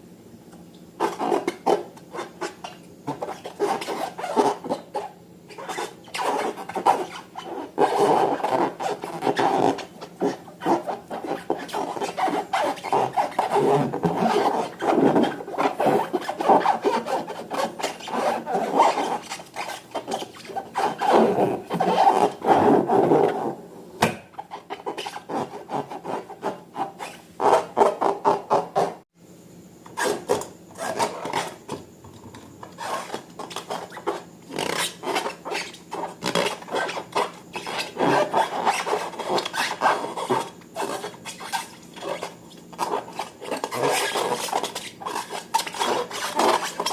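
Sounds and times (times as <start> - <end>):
slime rubbing and scraping: 1.0 - 23.6, 24.3 - 29.0, 29.9 - 31.7, 32.6 - 46.9.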